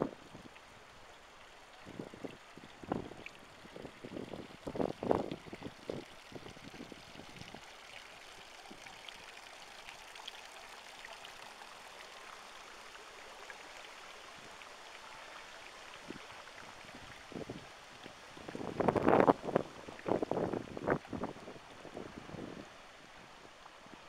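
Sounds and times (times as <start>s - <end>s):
fountain water splashing into basin: 0.0s - 22.6s.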